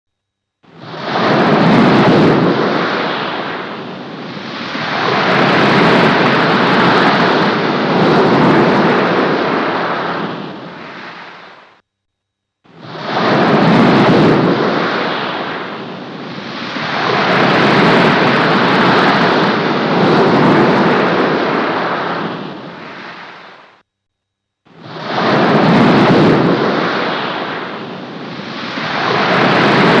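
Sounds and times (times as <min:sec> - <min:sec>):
thunder rolling and rumbling: 0:00.9 - 0:11.4, 0:12.8 - 0:23.4, 0:25.0 - 0:30.0.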